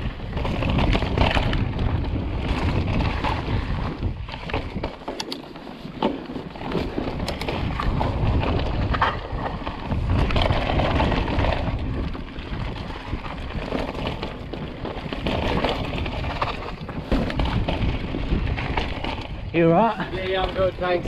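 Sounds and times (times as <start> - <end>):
bike clicks and clatters: 0.0 - 21.0
bike tyre noise: 0.0 - 21.0
wind rumbling on microphone: 0.0 - 21.0.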